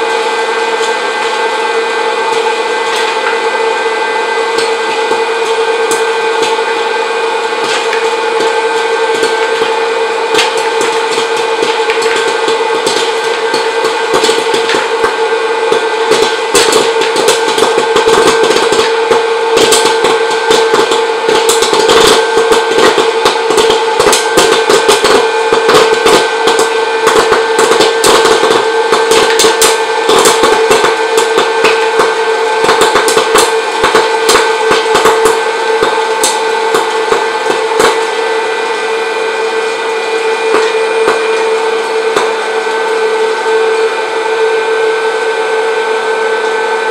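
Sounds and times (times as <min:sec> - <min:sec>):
popcorn popper fan motor hum: 0:00.0 - 0:46.9
popcorn kernels popping: 0:00.7 - 0:03.6, 0:04.3 - 0:43.9.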